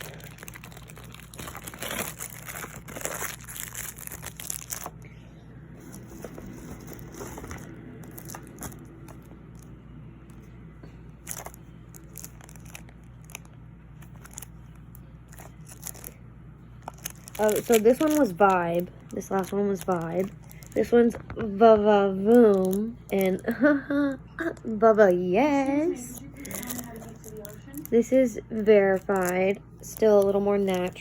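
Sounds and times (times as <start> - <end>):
plastic packaging crinkling: 0.0 - 5.1, 5.8 - 9.8, 11.1 - 16.2, 16.8 - 23.5, 25.9 - 31.0.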